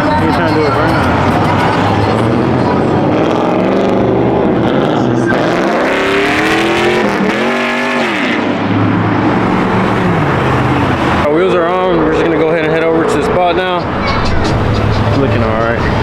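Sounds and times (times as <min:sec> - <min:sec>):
vehicle engine revving: 0:00.0 - 0:16.0.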